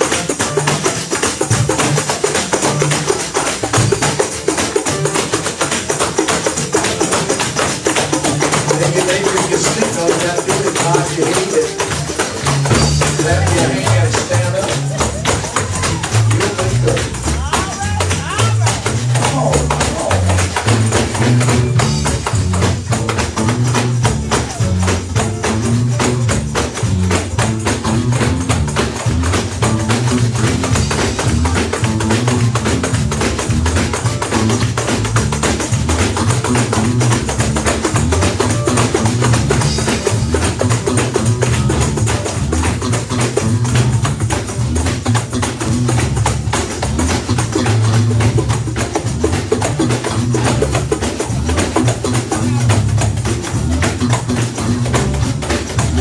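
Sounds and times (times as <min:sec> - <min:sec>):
fast tambourine rhythm: 0:00.0 - 0:56.0
live gospel band playing: 0:00.0 - 0:56.0.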